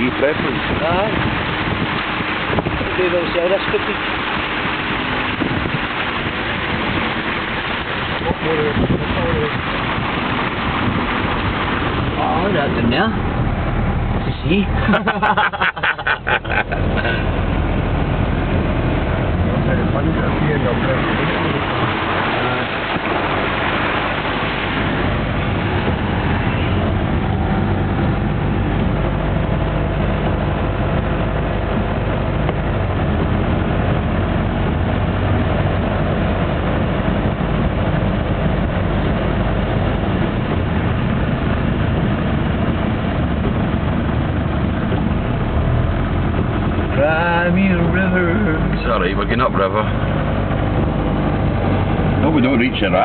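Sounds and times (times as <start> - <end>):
car engine and tyre noise: 0.0 - 53.0
water hissing under wheels: 0.0 - 53.0.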